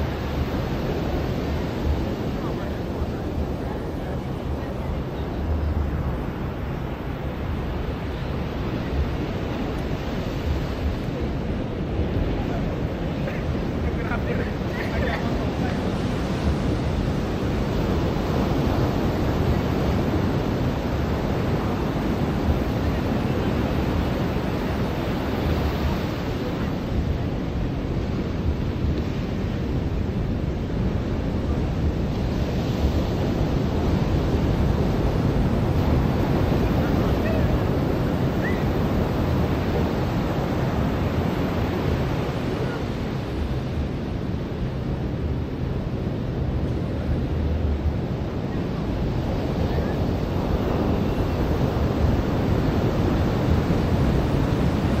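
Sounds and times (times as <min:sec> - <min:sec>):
ocean surf washing onto beach: 0:00.0 - 0:55.0.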